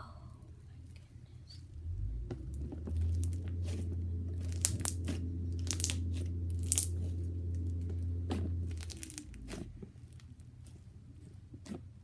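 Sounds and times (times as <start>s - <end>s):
steady low hum: 0.0s - 12.0s
crunchy slime crackling: 1.8s - 12.0s.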